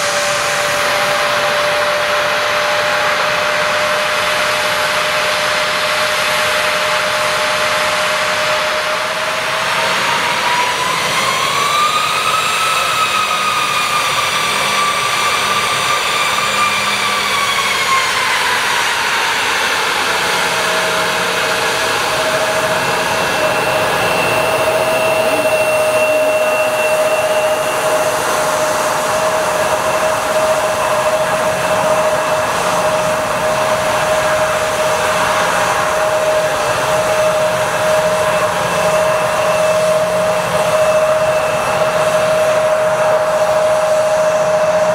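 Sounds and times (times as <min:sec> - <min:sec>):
jet engines running with high whine: 0:00.0 - 0:44.9.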